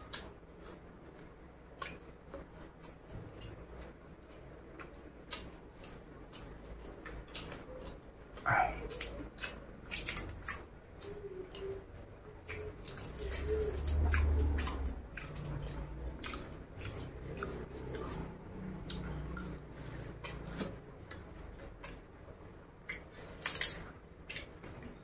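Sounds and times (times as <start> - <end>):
chewing and wet mouth clicks: 0.0 - 0.4, 1.1 - 11.8, 12.4 - 22.1, 22.8 - 24.9.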